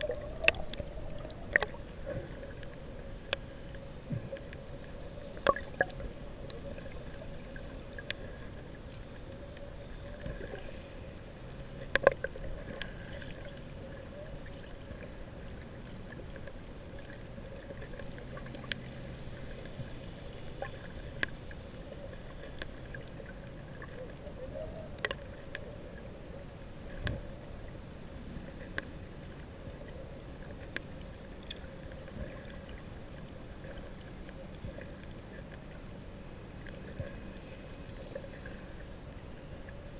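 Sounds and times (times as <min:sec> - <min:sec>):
muffled underwater hiss and hum: 0:00.0 - 0:39.9.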